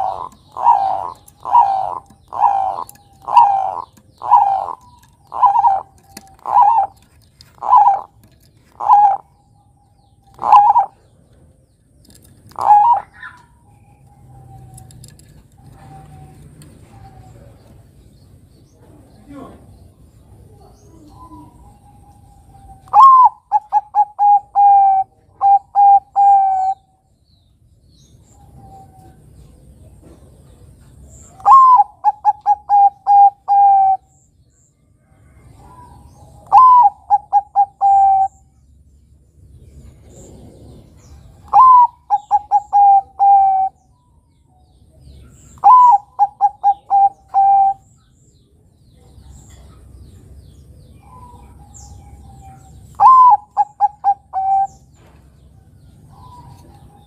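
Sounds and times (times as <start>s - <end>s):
dove cooing song: 0.0s - 27.2s, 28.1s - 34.3s, 35.0s - 38.7s, 39.5s - 57.0s.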